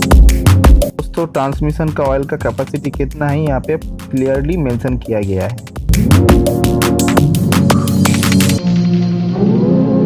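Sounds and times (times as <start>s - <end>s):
electronic drum beat: 0.0s - 9.2s.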